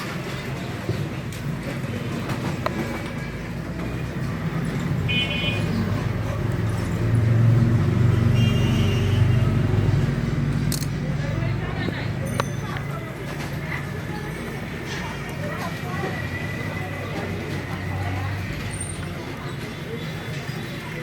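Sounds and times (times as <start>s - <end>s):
heavy vehicle rumble: 0.0s - 21.0s
road traffic noise: 0.0s - 21.0s.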